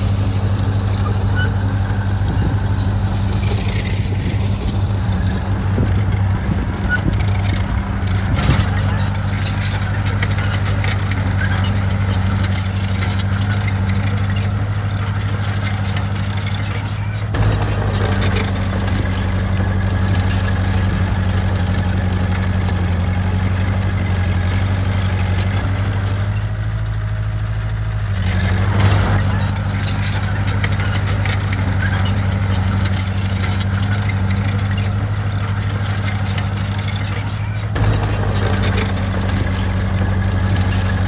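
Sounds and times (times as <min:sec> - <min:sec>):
heavy diesel engine clattering: 0:00.0 - 0:41.0.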